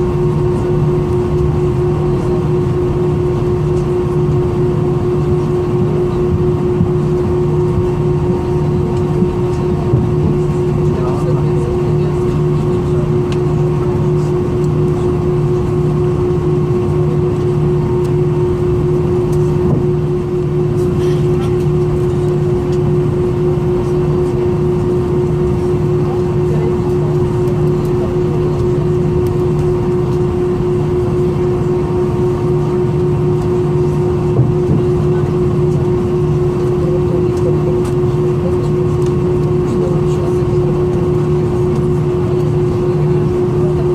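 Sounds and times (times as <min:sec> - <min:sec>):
aircraft cabin hum: 0:00.0 - 0:43.9.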